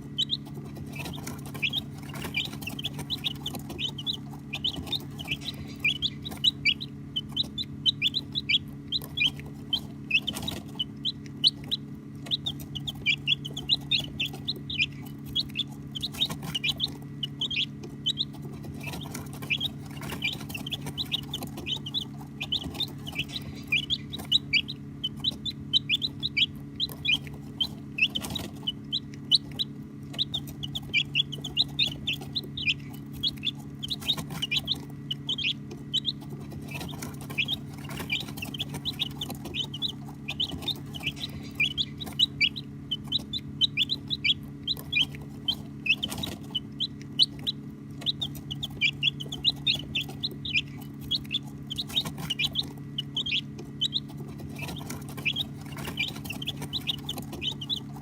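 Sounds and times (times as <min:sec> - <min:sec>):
baby chicks peeping: 0:00.0 - 0:58.0
steady low hum: 0:00.0 - 0:58.0.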